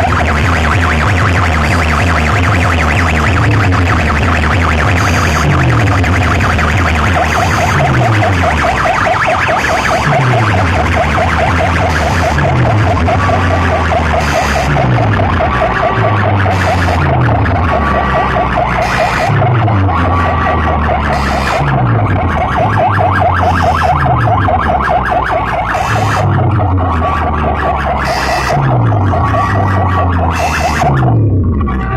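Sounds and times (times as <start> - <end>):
dance track over sound system: 0.0 - 31.2
deep bass drops sliding down: 0.0 - 31.9
warbling siren-like tone: 0.0 - 31.9.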